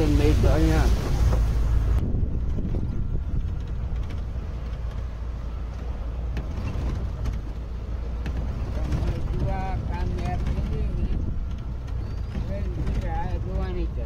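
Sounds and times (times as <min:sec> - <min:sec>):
jeep engine and road rumble: 0:00.0 - 0:14.0.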